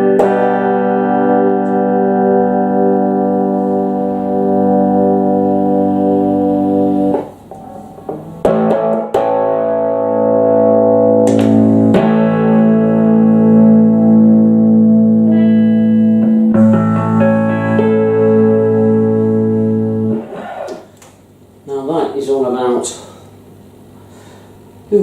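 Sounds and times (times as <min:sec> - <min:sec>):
electric guitar strummed chords: 0:00.0 - 0:20.8.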